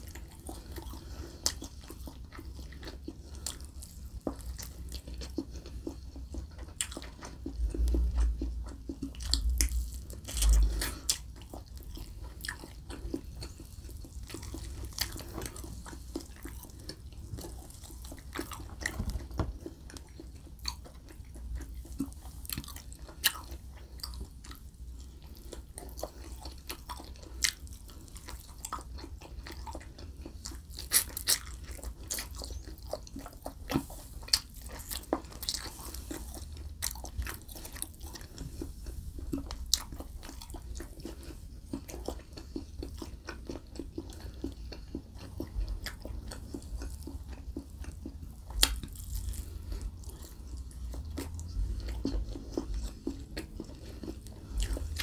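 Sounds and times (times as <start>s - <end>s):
low steady hum: 0.0s - 55.0s
wet chewing and biting: 0.0s - 55.0s.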